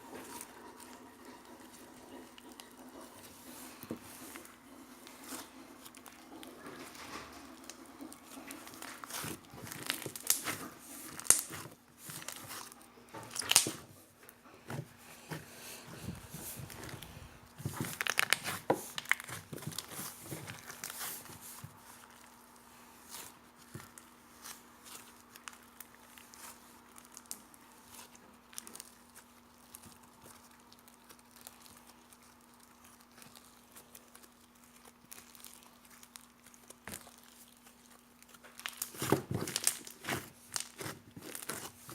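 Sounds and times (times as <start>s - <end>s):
faint steady hum: 0.0s - 41.9s
slime crackling and popping: 5.0s - 14.0s, 16.3s - 41.9s.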